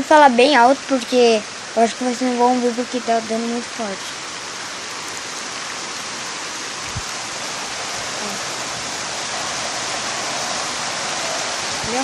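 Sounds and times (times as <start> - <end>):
heavy rain pouring: 0.0 - 12.0
running water: 0.0 - 12.0.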